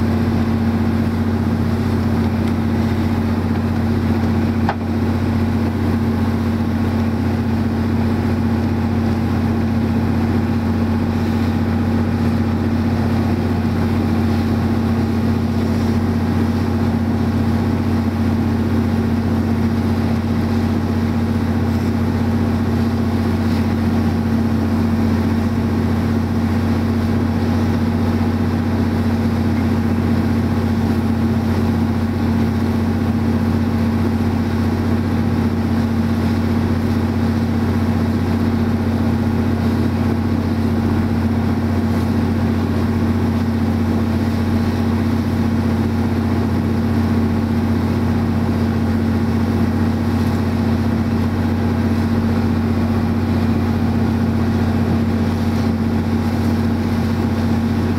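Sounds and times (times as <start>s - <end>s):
boat engine humming: 0.0s - 57.9s.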